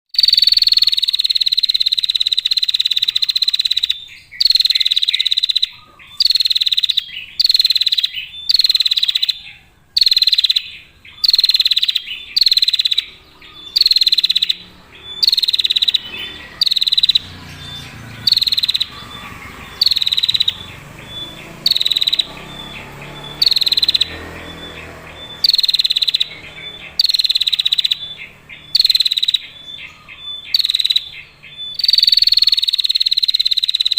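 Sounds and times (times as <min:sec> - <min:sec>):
bird buzzing trill: 0:00.2 - 0:33.9.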